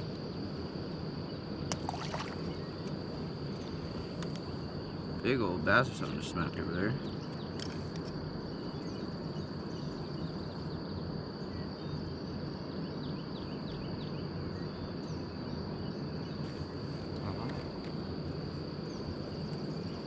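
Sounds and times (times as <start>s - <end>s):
insects droning: 0.0s - 20.0s
faint bird chirps: 1.2s - 20.0s.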